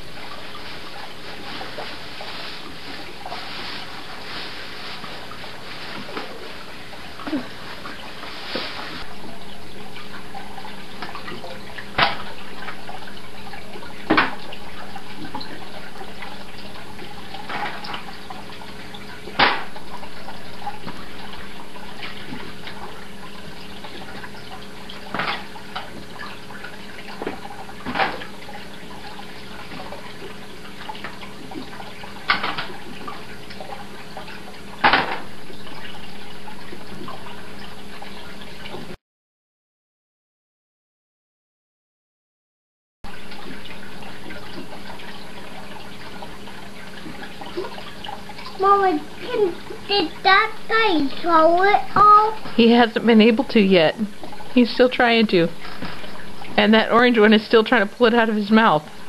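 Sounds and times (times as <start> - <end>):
aquarium water running: 0.0 - 39.0, 43.0 - 59.0.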